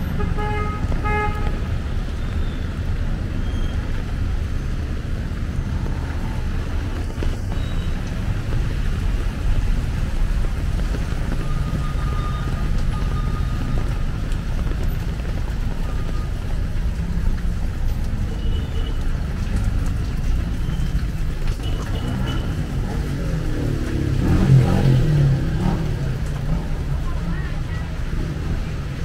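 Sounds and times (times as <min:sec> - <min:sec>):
traffic on a wet road: 0:00.0 - 0:29.0.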